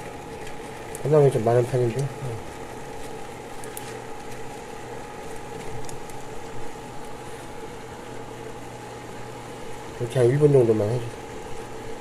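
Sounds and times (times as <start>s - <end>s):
cooktop hum: 0.0s - 12.0s.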